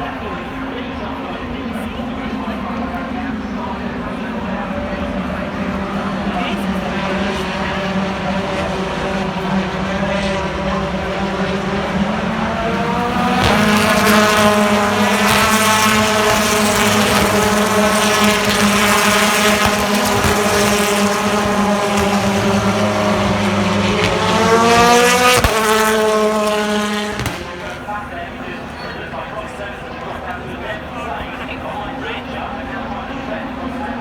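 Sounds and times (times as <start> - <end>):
race car engine running hard: 0.0 - 34.0.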